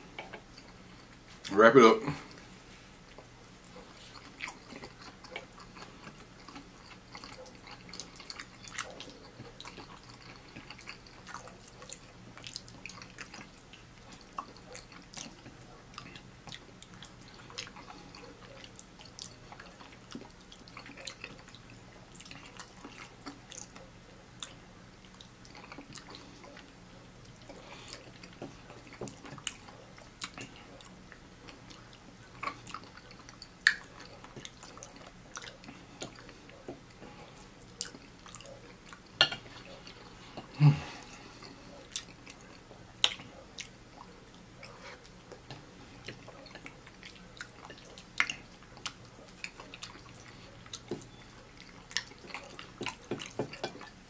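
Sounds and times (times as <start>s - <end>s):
wet chewing and lip smacks: 3.0s - 54.0s.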